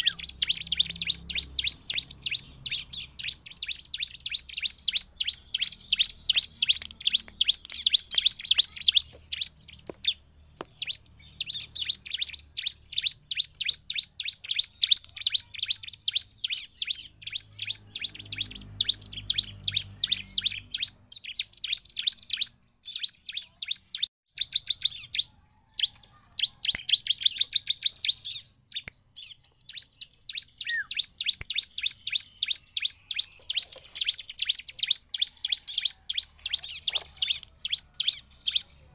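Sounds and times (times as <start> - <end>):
bird singing rapid high chirps: 0.0 - 38.9.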